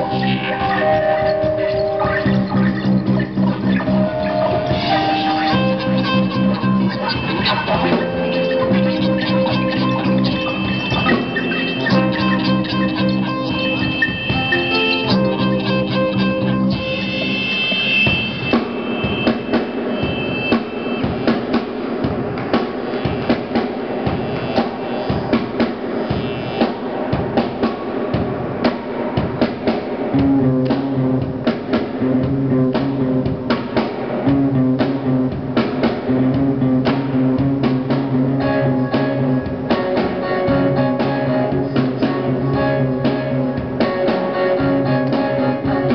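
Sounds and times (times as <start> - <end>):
electric guitars: 0.0 - 28.5, 30.1 - 45.9
drum kit beat: 0.0 - 45.9
keyboard: 0.0 - 45.9.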